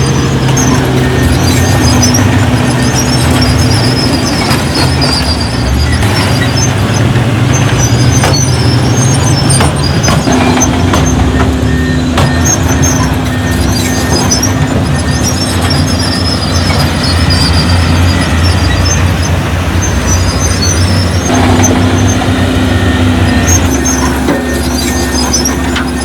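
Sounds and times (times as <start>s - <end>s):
bulldozer diesel engine running: 0.0s - 26.0s
steel tracks squeaking: 0.0s - 26.0s.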